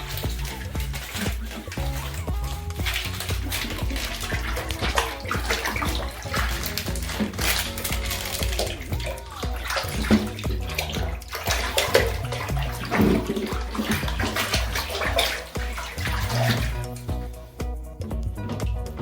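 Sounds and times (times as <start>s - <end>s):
background music with beat: 0.0s - 19.0s
water splashing in bathtub: 0.0s - 19.0s.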